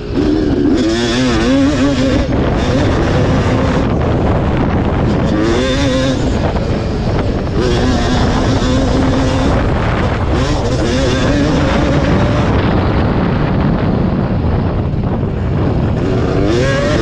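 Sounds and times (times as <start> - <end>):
motorcycle engine revving: 0.0 - 17.0
wind noise on microphone: 0.0 - 17.0.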